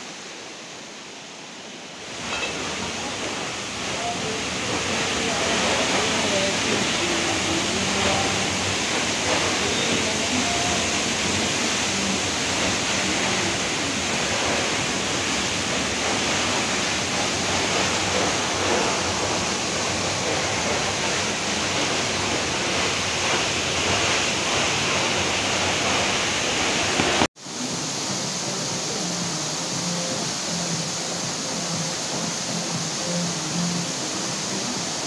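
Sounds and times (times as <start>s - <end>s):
falling water rushing: 0.0s - 35.0s.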